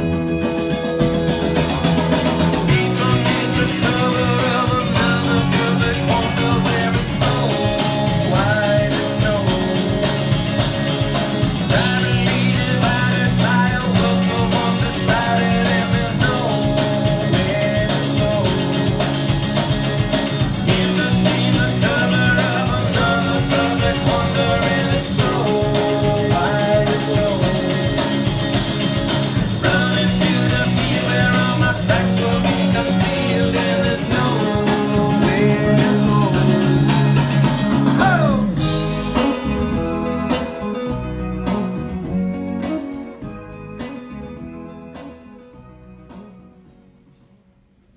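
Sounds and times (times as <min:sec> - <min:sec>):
rock song with guitar: 0:00.0 - 0:46.8.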